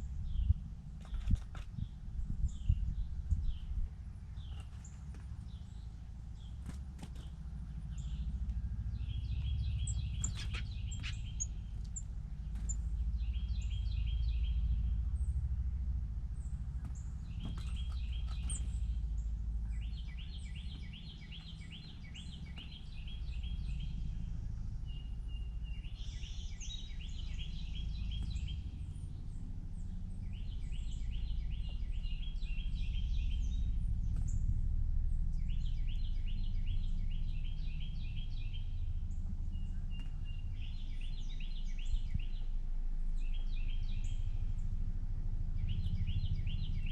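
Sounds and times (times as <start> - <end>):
songbirds trilling: 0.0 - 34.5, 35.1 - 46.9
steady low rumble: 0.0 - 46.9.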